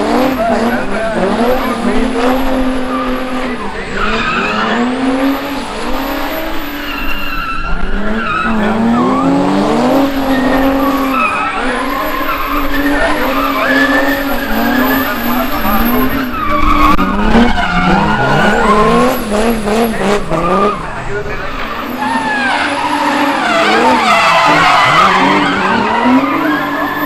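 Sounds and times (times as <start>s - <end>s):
car engine revving hard: 0.0s - 27.0s
tires squealing and skidding: 0.0s - 27.0s.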